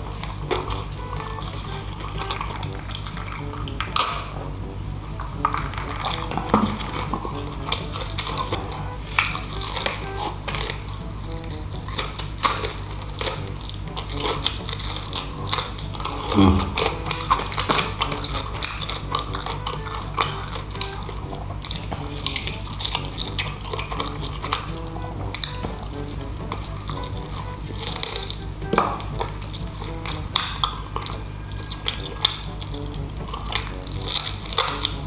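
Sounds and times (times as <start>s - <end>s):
crunching and chewing: 0.0s - 35.0s
low background noise: 0.0s - 35.0s.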